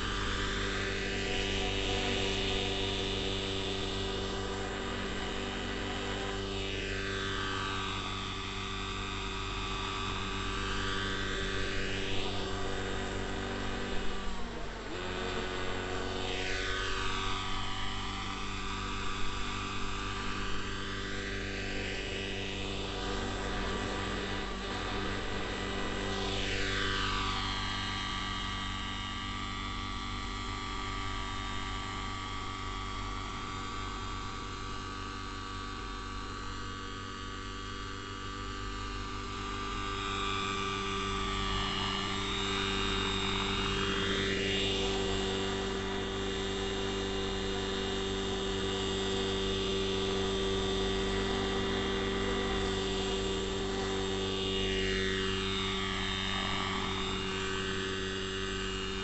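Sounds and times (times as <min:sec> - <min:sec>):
model helicopter engine and rotors: 0:00.0 - 0:59.0.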